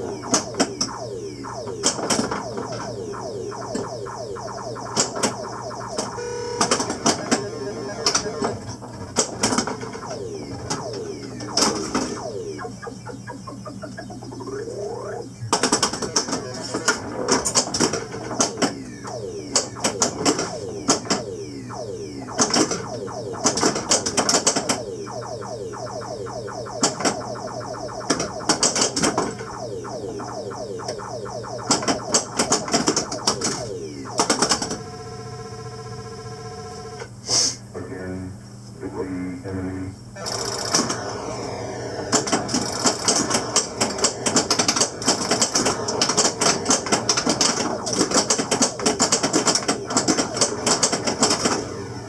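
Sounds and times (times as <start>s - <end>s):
electronic sound effects: 0.0s - 37.0s, 40.2s - 52.0s
steady hum: 0.0s - 52.0s.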